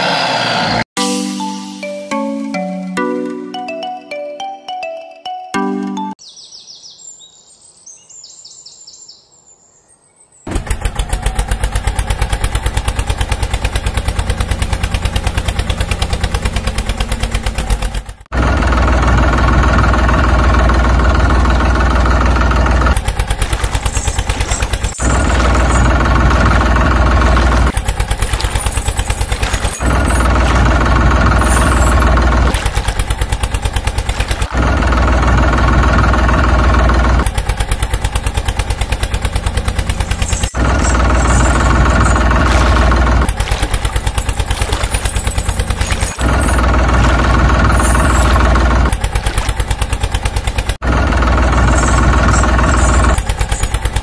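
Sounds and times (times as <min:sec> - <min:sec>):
tractor engine chugging: 0:10.5 - 0:54.0.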